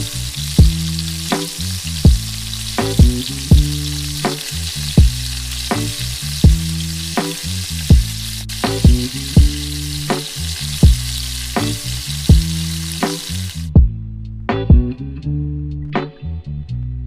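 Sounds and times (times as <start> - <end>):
food sizzling in hot oil: 0.0 - 13.7
lo-fi music with beat and bass: 0.0 - 17.0.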